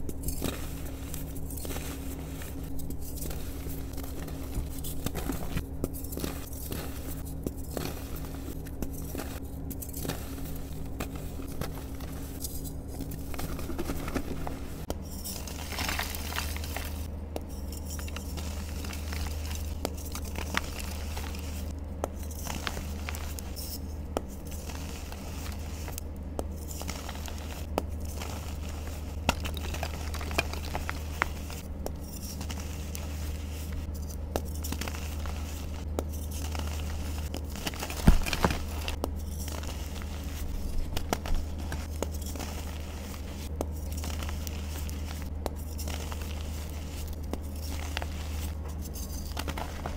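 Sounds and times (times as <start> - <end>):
chalk crunching and crackling: 0.0 - 49.9
steady low hum: 0.0 - 49.9.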